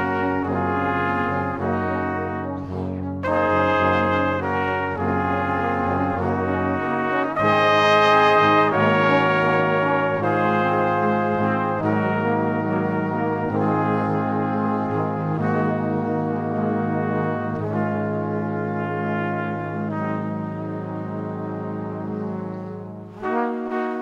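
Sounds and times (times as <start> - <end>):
brass background music: 0.0 - 24.0.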